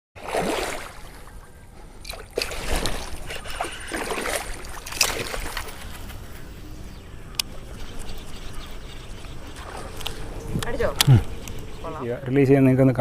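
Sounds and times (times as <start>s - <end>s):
water splashing and sloshing: 0.2s - 12.0s.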